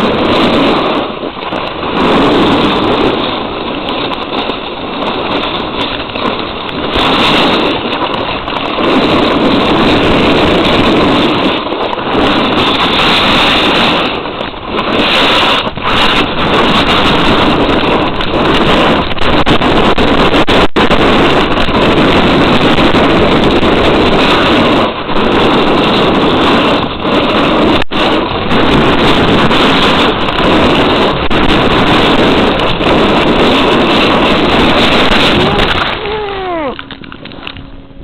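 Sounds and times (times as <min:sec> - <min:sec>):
snowboard scraping on snow: 0:00.0 - 0:36.5
wind rushing over microphone: 0:00.0 - 0:38.0.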